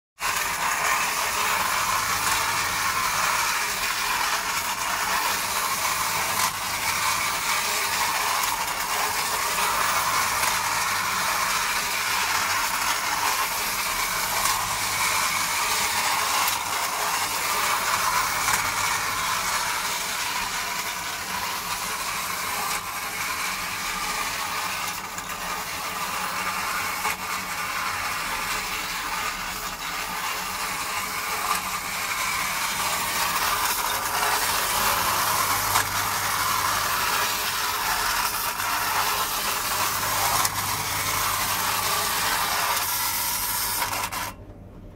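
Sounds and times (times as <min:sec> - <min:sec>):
toy car mechanism whirring: 0:00.2 - 0:44.4.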